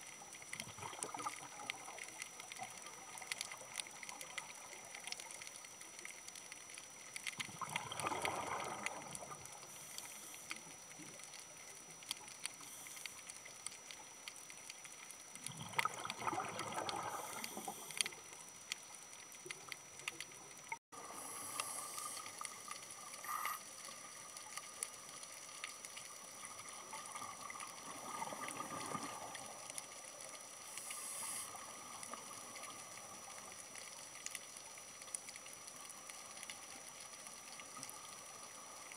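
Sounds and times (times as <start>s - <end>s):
faint steady hiss: 0.0s - 38.9s
ticks and crackles: 0.0s - 38.9s.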